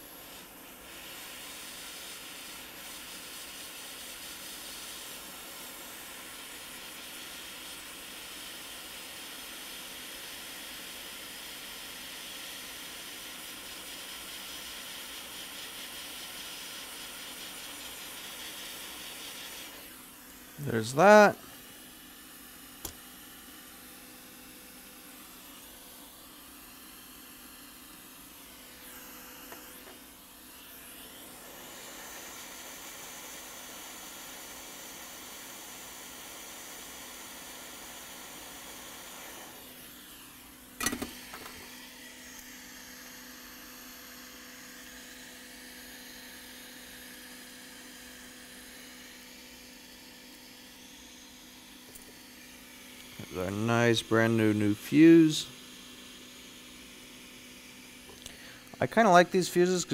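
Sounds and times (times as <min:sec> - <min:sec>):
hot air blower hissing: 0:00.0 - 0:59.9.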